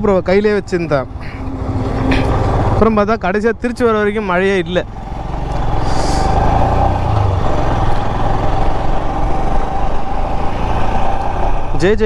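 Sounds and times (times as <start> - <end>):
wind and road rush: 0.0 - 12.0
motorcycle engine cruising: 0.1 - 12.0.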